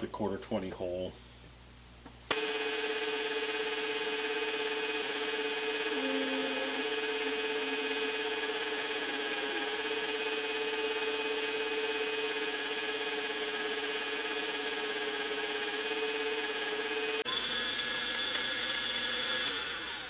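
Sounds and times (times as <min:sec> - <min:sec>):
machine tool whining: 0:02.3 - 0:20.0.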